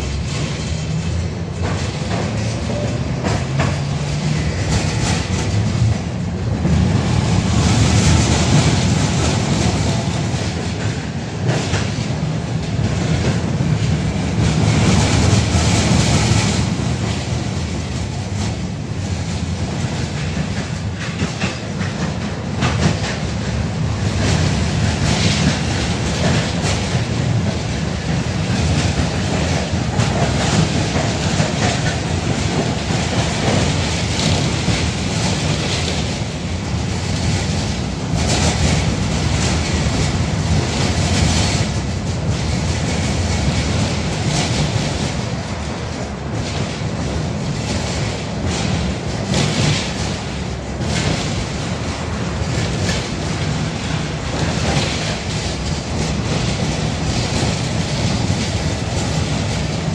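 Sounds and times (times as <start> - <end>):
tram motors and wheels rumbling: 0.0 - 59.9.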